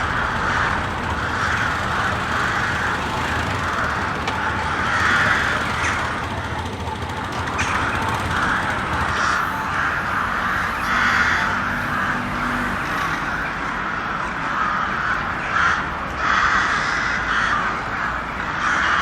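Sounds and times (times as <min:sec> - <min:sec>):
crows cawing: 0:00.0 - 0:19.0.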